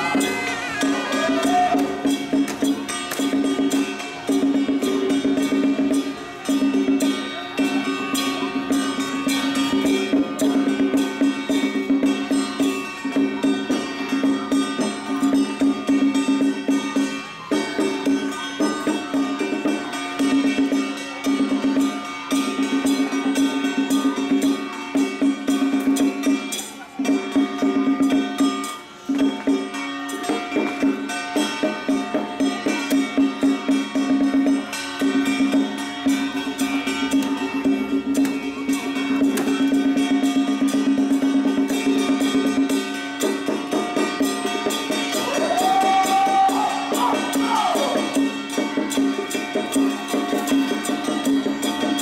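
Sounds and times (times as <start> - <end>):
wood-block and drum beat: 0.0 - 52.0.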